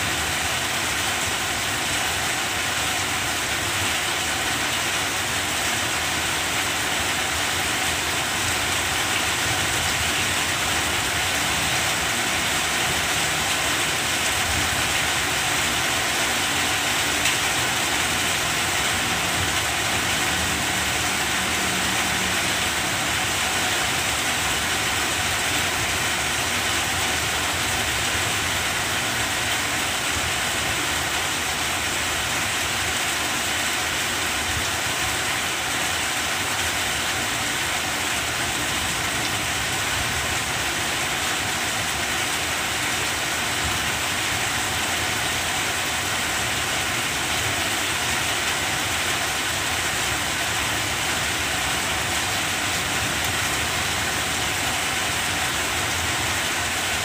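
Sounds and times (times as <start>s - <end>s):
heavy rain on plants: 0.0s - 57.0s.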